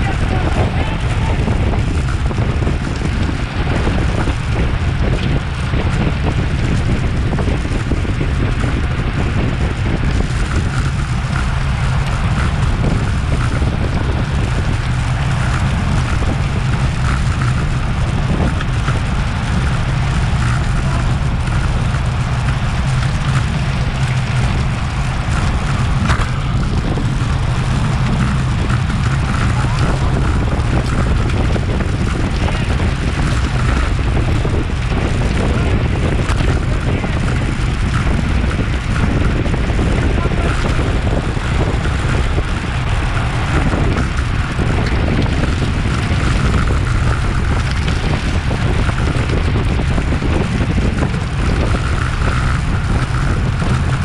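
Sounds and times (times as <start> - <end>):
tyres rumbling on road: 0.0 - 54.0
wind buffeting microphone: 0.0 - 54.0.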